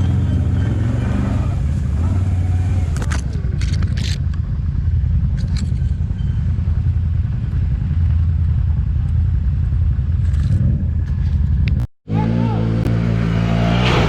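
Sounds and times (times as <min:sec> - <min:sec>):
quad bike engine running: 0:00.0 - 0:13.6.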